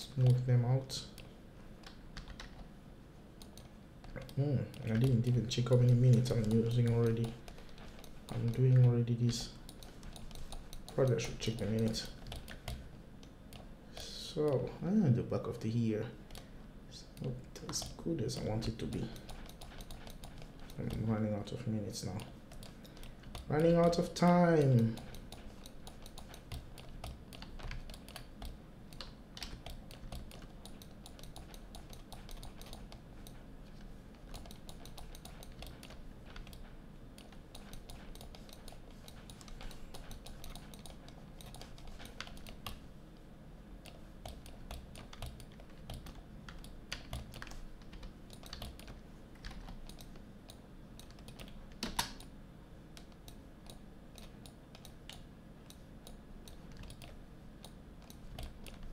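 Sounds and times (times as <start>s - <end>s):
keyboard and mouse clicks: 0.0s - 2.7s, 3.4s - 14.7s, 17.2s - 42.9s, 43.8s - 52.3s, 52.9s - 58.9s.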